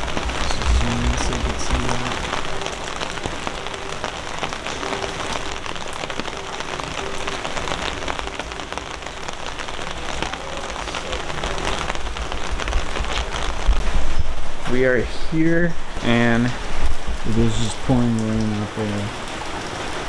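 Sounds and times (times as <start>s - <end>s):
steady rain on street: 0.0s - 20.0s.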